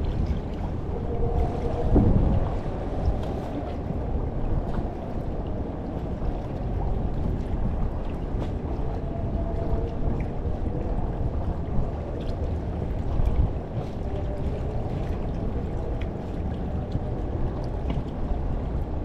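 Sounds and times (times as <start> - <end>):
water moving around boat: 0.0 - 19.0
wind rumble on microphone: 0.0 - 19.0.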